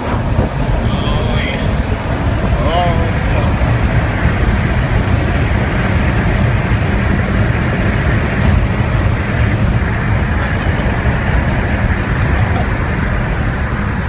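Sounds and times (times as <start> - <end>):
car cabin engine and tyre rumble: 0.0 - 14.0.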